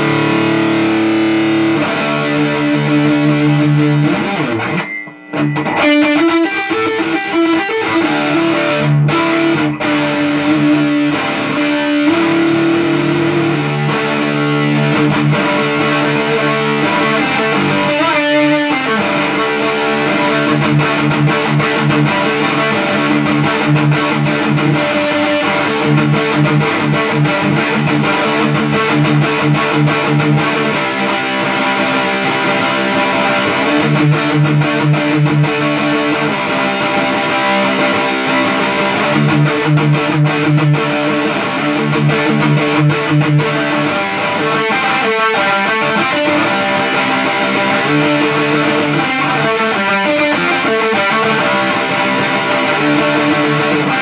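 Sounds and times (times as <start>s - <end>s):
distorted electric guitar riffs: 0.0s - 54.0s.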